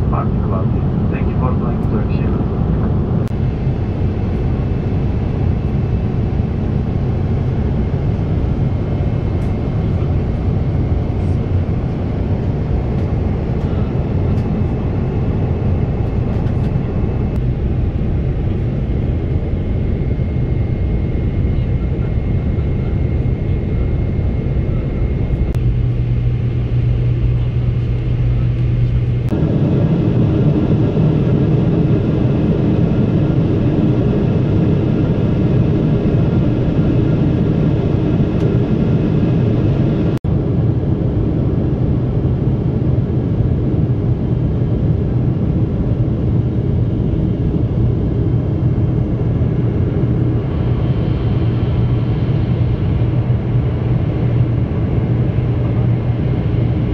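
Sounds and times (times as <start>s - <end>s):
airplane cabin rumble: 0.0s - 56.9s.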